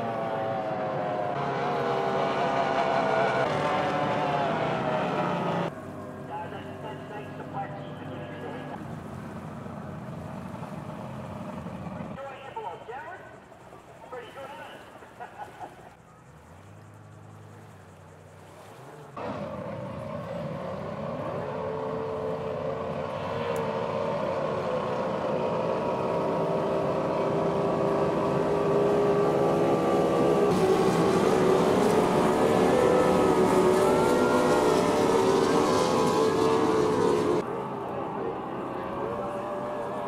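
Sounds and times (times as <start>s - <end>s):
racing outboard motors revving: 0.0s - 12.8s, 13.4s - 40.0s.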